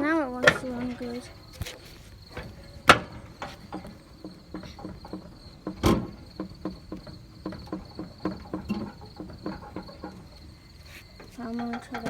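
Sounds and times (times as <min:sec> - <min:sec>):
clicks and knocks of mower levers: 0:00.4 - 0:12.0
loud thumps: 0:00.4 - 0:12.0.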